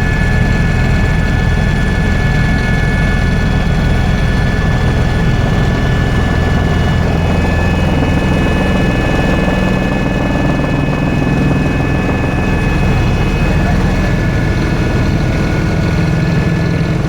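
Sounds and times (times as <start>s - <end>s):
helicopter engine and rotor drone: 0.0s - 17.0s
high-pitched whines: 0.0s - 17.0s.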